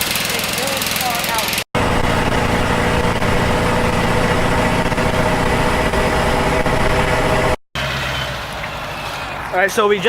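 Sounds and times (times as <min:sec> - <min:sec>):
riding lawn mower engine running: 0:00.0 - 0:09.7.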